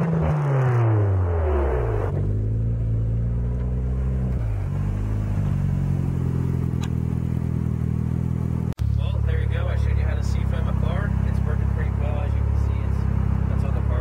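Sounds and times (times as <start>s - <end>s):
car engine idling: 1.4s - 14.0s.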